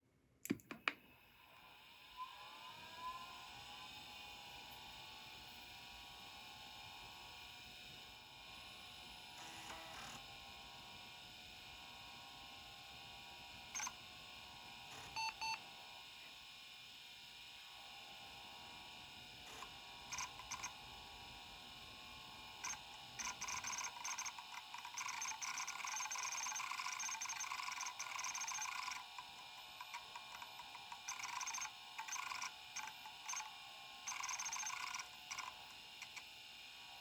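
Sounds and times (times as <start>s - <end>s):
hard drive high whine: 1.0s - 37.0s
hard drive stepper motor chattering: 2.6s - 16.6s, 18.0s - 37.0s.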